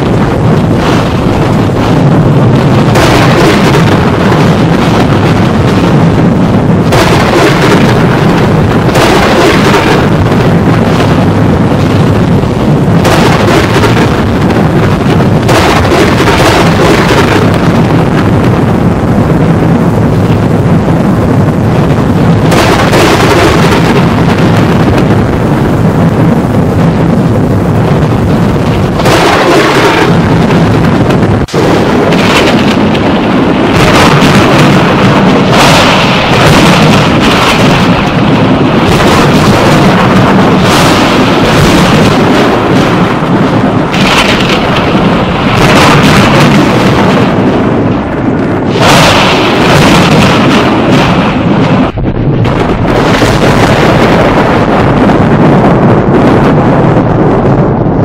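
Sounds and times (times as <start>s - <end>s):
thunder rumbling and cracking: 0.0s - 58.0s.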